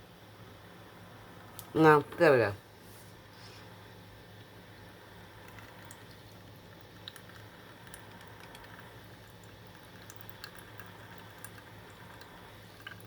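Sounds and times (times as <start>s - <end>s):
coffee maker low hum: 0.0s - 13.0s.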